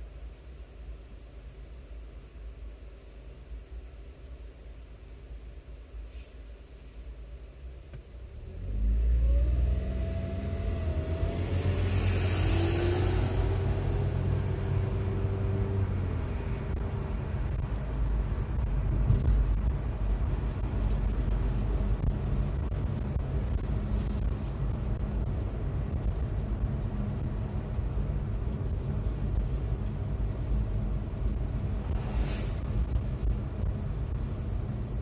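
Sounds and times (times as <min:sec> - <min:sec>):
car engine hum: 0:06.6 - 0:35.0.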